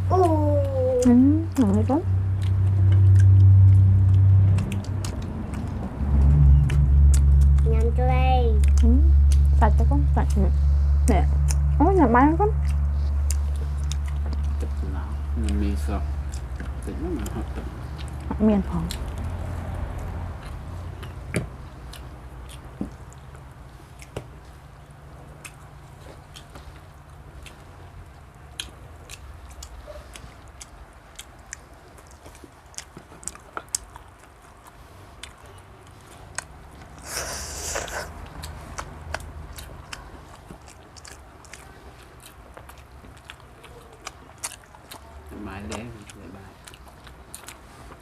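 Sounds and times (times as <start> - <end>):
low steady hum: 0.0 - 48.0
people chewing: 0.0 - 48.0.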